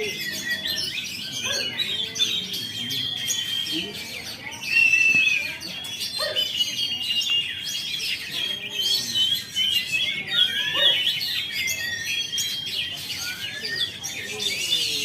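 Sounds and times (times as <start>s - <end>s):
bird singing whistles and chirps: 0.0s - 15.0s.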